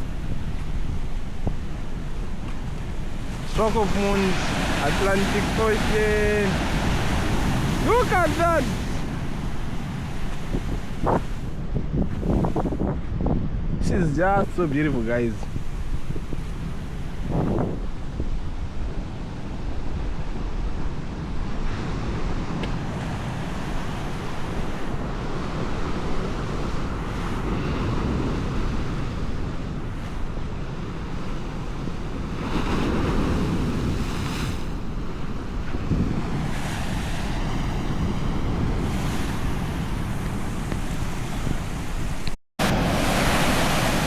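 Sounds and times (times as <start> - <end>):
ocean waves breaking: 0.0 - 44.0
wind buffeting microphone: 0.0 - 44.0.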